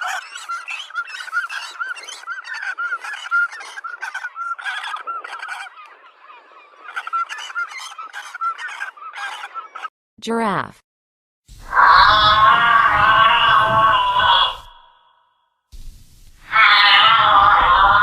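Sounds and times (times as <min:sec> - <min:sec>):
flock of birds calling: 0:00.0 - 0:09.9, 0:11.7 - 0:15.1, 0:16.4 - 0:18.0.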